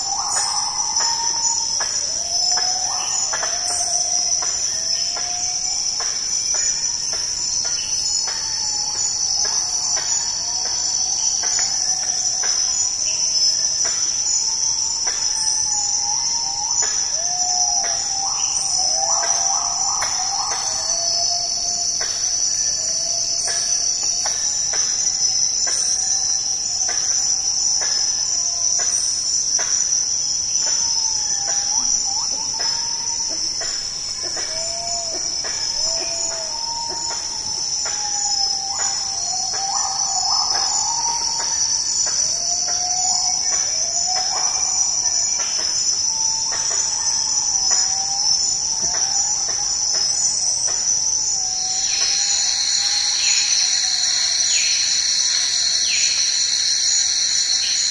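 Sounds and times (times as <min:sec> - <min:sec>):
faint gliding whistled calls: 0:00.0 - 0:57.9
high-pitched insect chorus buzzing: 0:00.0 - 0:57.9.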